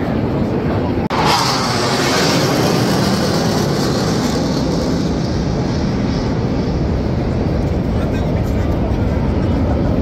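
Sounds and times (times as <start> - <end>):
jet flying past roaring: 0.0 - 10.0.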